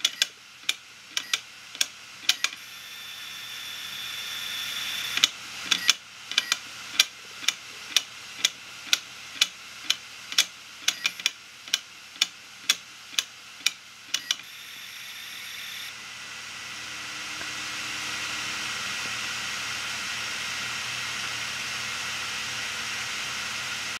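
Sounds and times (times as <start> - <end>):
spinning hard drive whirring: 0.0 - 23.9.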